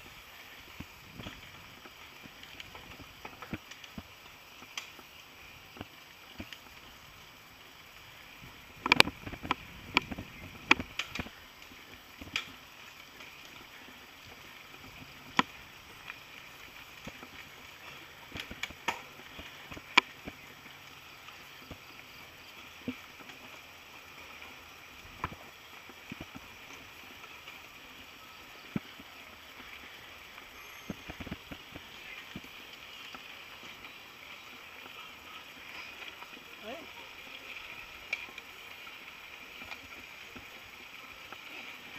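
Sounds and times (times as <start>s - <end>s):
tyre and trail noise: 0.0s - 41.9s.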